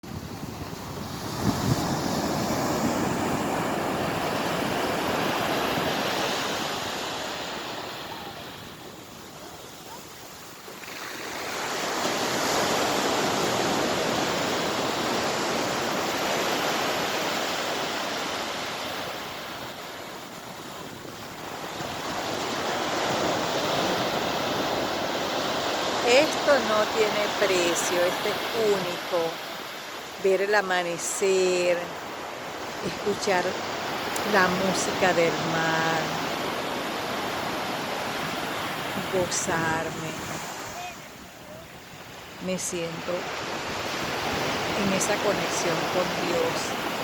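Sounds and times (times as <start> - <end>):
sea waves breaking on beach: 0.0 - 47.0.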